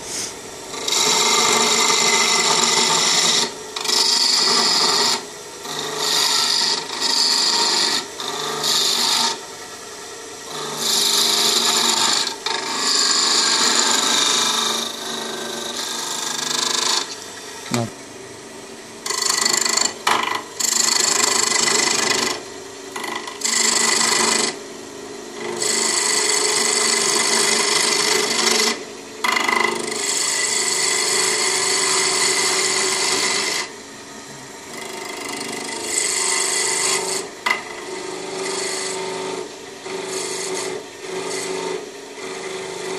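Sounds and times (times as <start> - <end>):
turning tool scraping wood: 0.0 - 9.4, 10.5 - 17.2, 19.0 - 24.6, 25.4 - 33.7, 34.5 - 42.9
wood lathe spinning: 0.0 - 17.9, 18.5 - 42.9.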